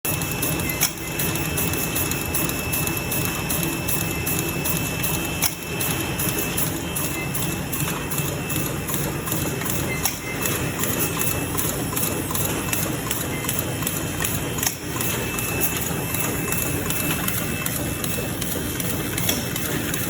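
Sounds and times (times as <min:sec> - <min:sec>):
machinery clattering: 0:00.1 - 0:20.0
thin steady machine whine: 0:00.1 - 0:20.0.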